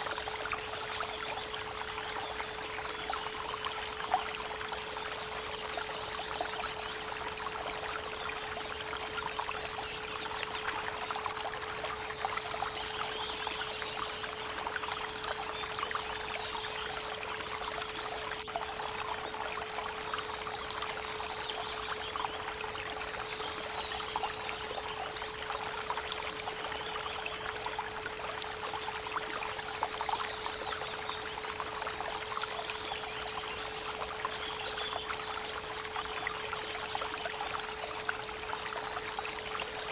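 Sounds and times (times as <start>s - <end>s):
birds singing trills: 0.0s - 39.9s
creek water trickling: 0.0s - 39.9s.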